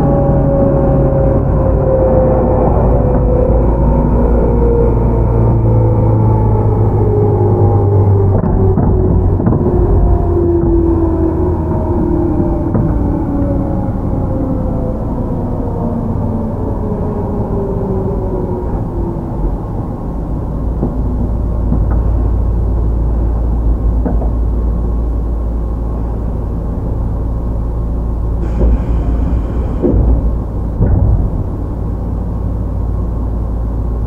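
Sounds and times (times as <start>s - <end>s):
train motor whine: 0.0s - 34.0s
wheels rumbling on rail: 0.0s - 34.0s.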